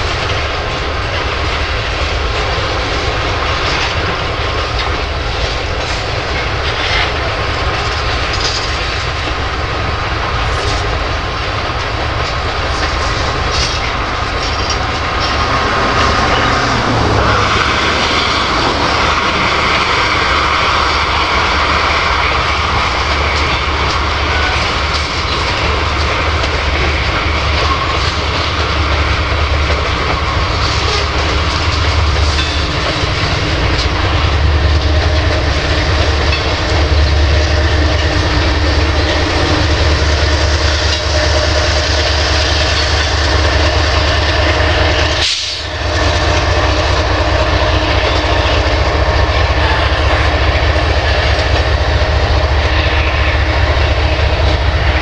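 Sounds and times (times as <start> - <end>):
freight train cars rolling past: 0.0 - 55.0
wheels clicking on rail: 0.0 - 55.0.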